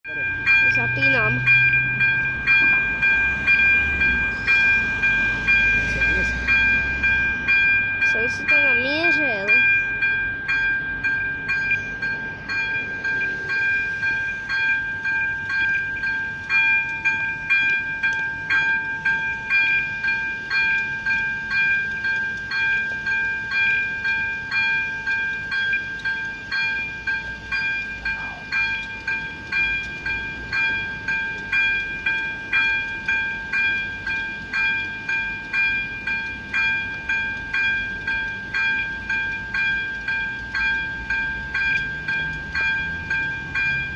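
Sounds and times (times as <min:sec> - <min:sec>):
level crossing warning bell: 0:00.0 - 0:43.9
steady warning tone: 0:00.0 - 0:43.9.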